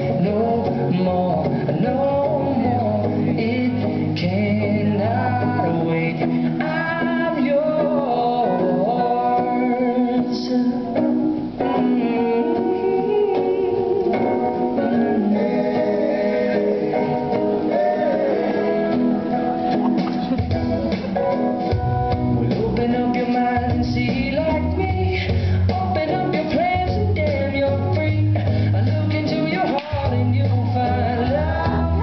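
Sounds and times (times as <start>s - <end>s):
song with singing over guitar: 0.0s - 32.0s.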